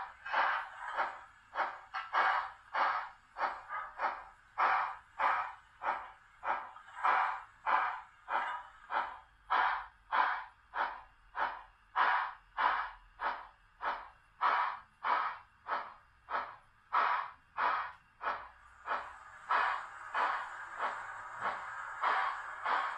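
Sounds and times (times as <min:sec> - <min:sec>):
model steam locomotive chuffing: 0:00.0 - 0:22.9.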